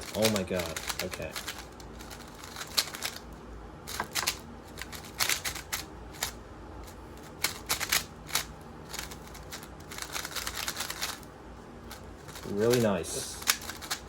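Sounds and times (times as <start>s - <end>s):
speed cube clicking: 0.0s - 3.2s, 3.9s - 6.4s, 7.3s - 11.2s, 12.3s - 14.0s.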